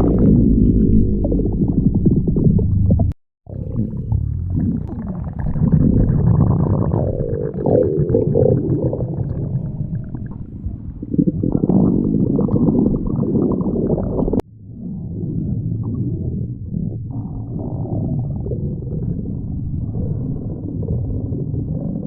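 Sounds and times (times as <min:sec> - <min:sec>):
stomach growling: 0:00.0 - 0:22.0.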